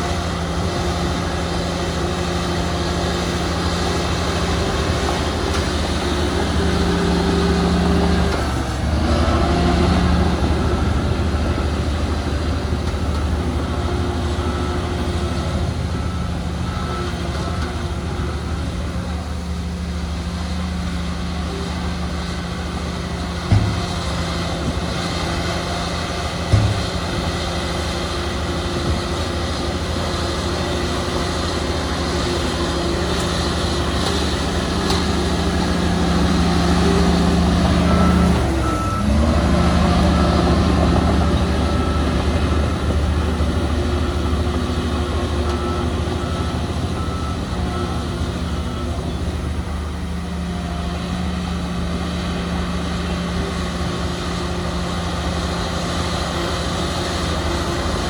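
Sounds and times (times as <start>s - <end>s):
diesel machinery running: 0.0s - 58.0s
reversing alarm beeping: 0.2s - 58.0s.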